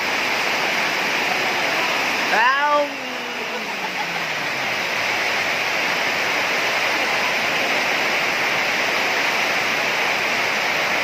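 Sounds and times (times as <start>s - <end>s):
heavy rainfall hiss: 0.0s - 11.0s.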